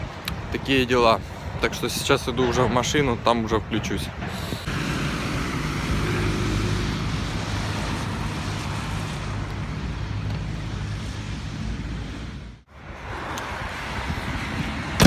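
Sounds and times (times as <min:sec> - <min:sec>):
wind rumbling on microphone: 0:00.0 - 0:15.0
road traffic: 0:02.3 - 0:15.0.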